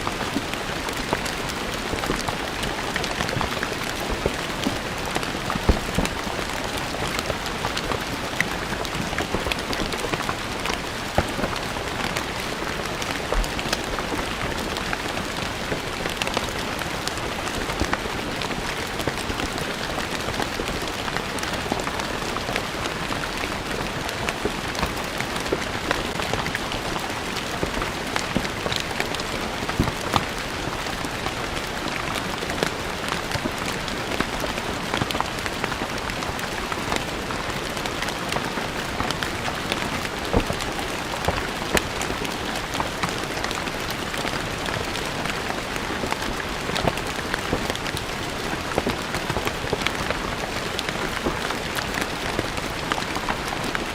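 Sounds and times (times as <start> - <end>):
rain falling on stone: 0.0 - 53.9.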